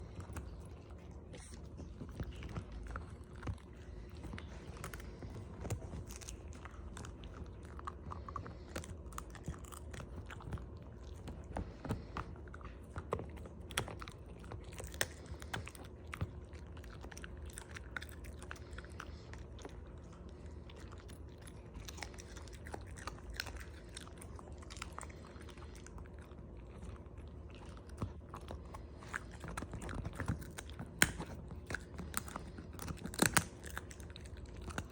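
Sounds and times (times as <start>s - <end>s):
dog chewing and crunching: 0.0s - 34.9s
steady low hum: 0.0s - 34.9s.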